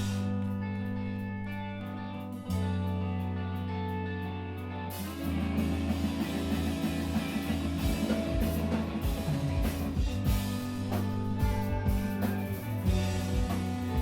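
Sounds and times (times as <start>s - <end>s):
held guitar chord ringing: 0.0s - 14.0s
rock band playing live: 0.0s - 14.0s.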